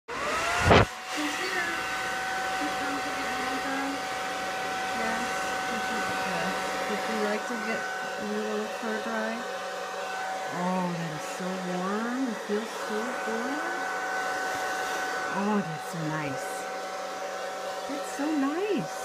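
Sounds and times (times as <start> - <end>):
blow dryer running: 0.1 - 19.0.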